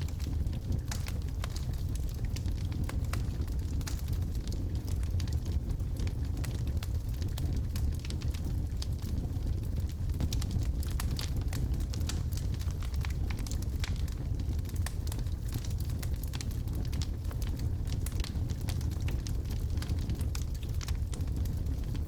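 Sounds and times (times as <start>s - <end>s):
fireplace fire rumbling: 0.0s - 22.0s
wood crackling and popping: 0.0s - 22.0s.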